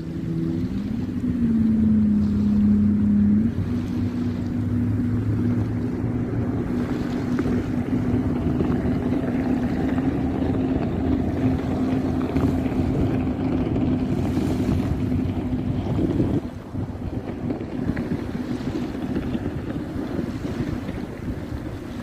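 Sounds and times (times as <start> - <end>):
engine drone: 0.0 - 22.0
wind noise on microphone: 0.0 - 22.0.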